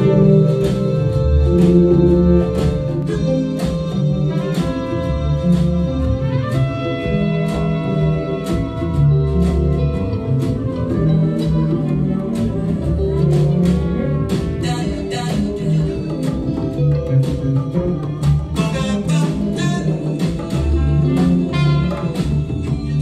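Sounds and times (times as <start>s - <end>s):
trumpet held notes: 0.0s - 14.8s, 17.8s - 23.0s
bass guitar: 0.0s - 23.0s
drums and congas beat: 0.0s - 23.0s
guitar: 0.0s - 23.0s.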